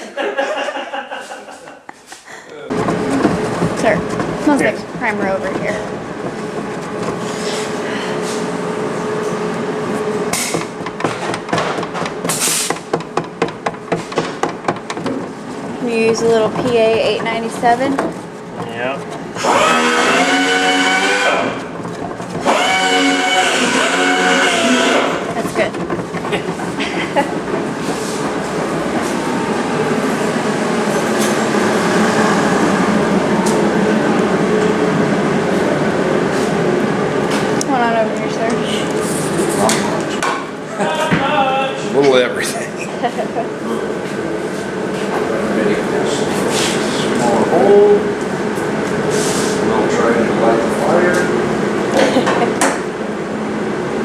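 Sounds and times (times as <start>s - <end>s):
steady hum with held tone: 0.0s - 54.0s
machine droning: 2.6s - 54.0s.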